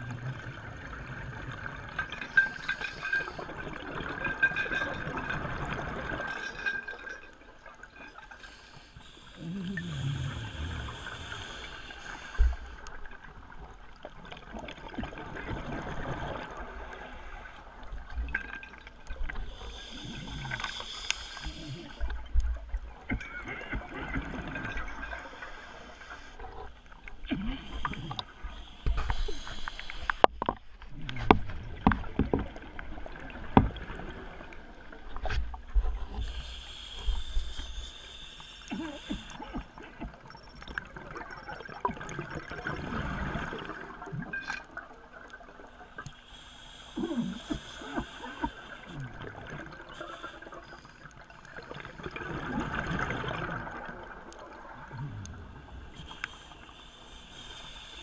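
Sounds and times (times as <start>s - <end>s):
underwater bubbling and gurgling: 0.0s - 58.0s.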